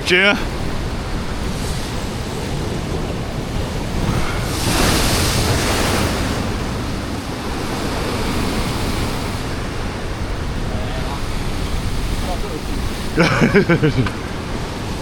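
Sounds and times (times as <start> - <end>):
ocean surf against rocks: 0.0 - 15.0
wave breaking: 0.0 - 15.0
wind on microphone: 0.0 - 15.0.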